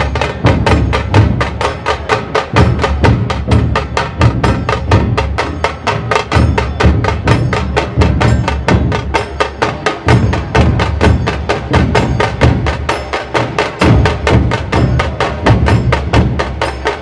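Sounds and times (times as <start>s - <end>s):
deep pulsing dhol beats: 0.0s - 17.0s
sharp tasha drum strokes: 0.0s - 17.0s.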